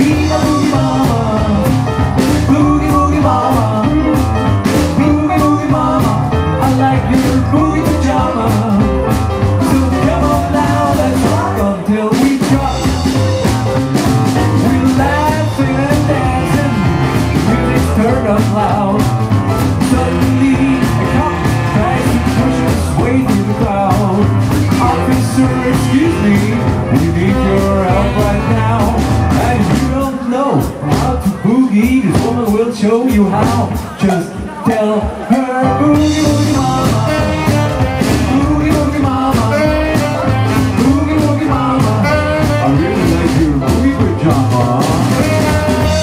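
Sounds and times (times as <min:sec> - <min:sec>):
live rock and roll band: 0:00.0 - 0:46.0.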